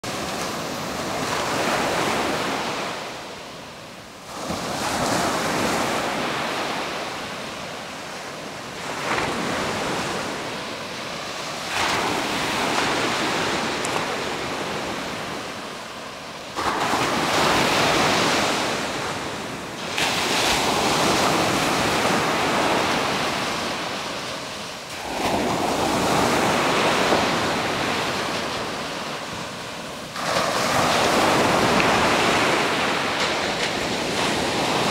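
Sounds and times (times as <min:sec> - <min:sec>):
ocean waves breaking on sand: 0:00.0 - 0:34.9.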